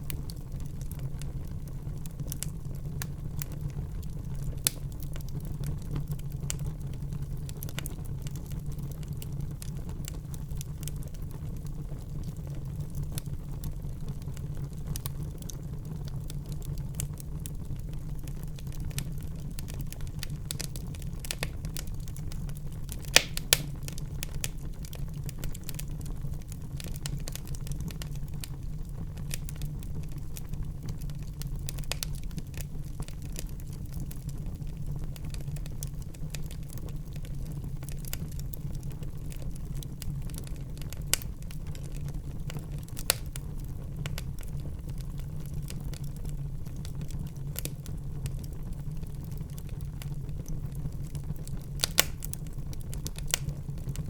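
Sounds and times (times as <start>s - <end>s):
fire crackles and pops: 0.0s - 54.0s
fire rumbling in fireplace: 0.0s - 54.0s.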